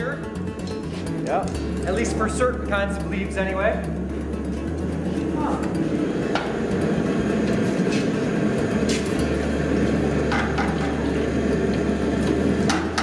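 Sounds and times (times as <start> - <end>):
forge burner rushing and humming: 0.0 - 13.0.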